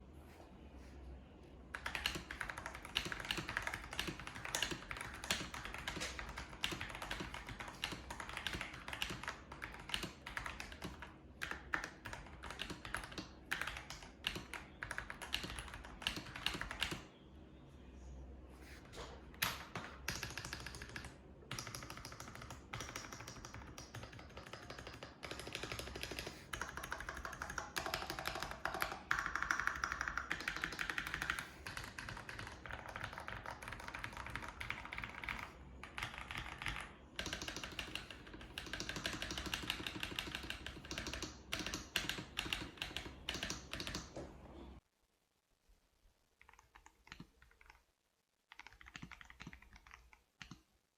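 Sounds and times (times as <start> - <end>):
mechanical keyboard typing: 1.7 - 17.1, 19.3 - 44.2, 46.4 - 47.9, 48.5 - 50.6.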